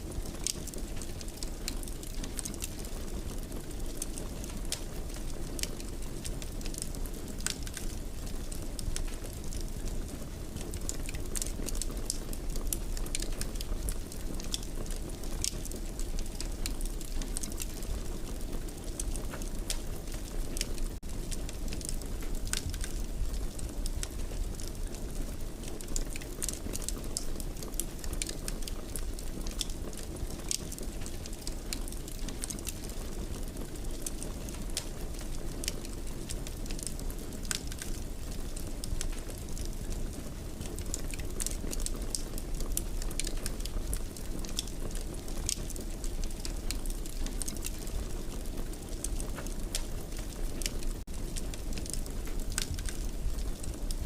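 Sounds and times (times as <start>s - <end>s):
fire crackling and popping: 0.0s - 54.0s
low rumble of burning: 0.0s - 54.0s.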